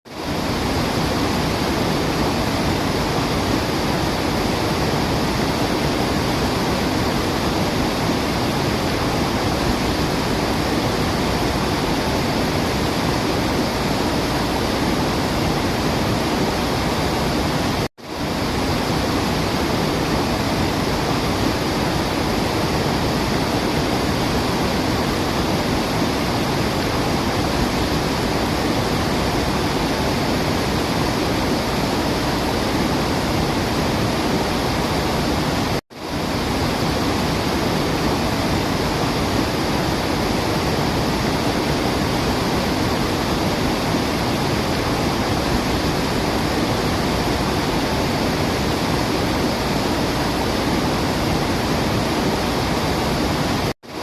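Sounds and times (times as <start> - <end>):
waterfall rushing: 0.1 - 54.0.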